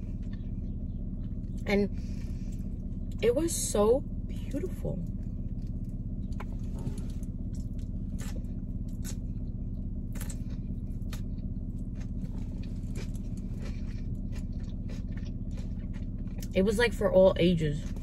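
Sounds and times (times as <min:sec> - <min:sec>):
chewing and crunching food: 0:00.0 - 0:03.2, 0:04.3 - 0:18.0
low car hum: 0:00.0 - 0:18.0.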